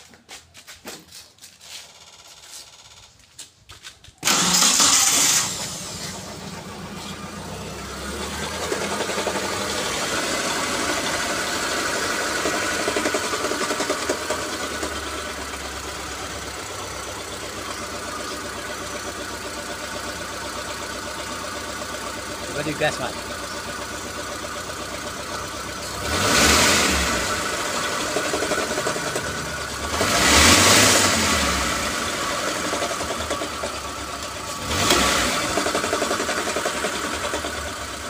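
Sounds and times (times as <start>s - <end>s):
engine cranking and idling: 1.1s - 38.0s.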